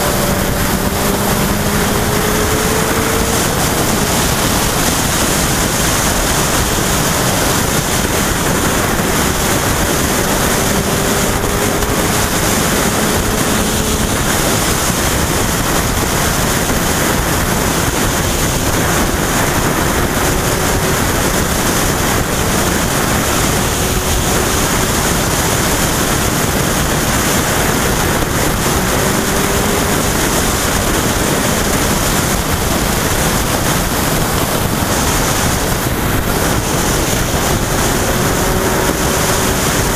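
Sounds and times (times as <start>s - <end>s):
faint motorcycle engine: 0.0s - 39.9s
wind rush over microphone: 0.0s - 39.9s.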